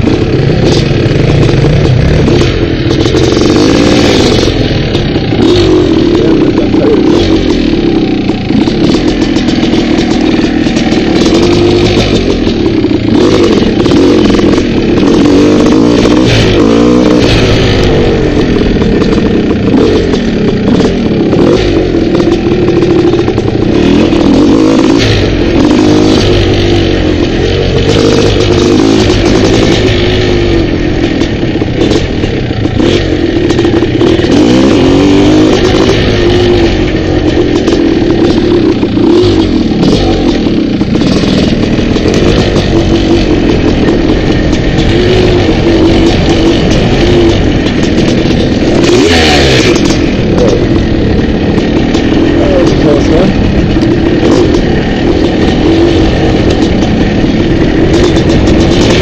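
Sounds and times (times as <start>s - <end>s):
bike knocks and rattles: 0.0s - 59.0s
dirt bike engine revving: 0.0s - 59.0s.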